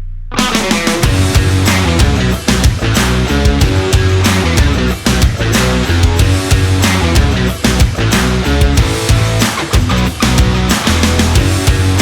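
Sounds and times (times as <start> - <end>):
rock music: 0.3 - 12.0.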